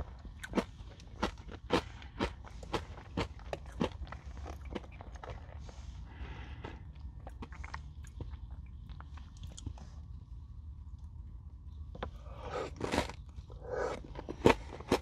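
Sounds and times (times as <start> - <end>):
chewing crunchy granola bar: 0.0 - 15.0.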